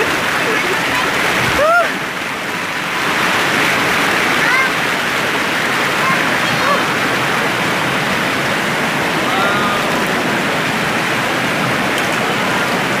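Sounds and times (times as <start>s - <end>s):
flowing spring water: 0.0s - 13.0s.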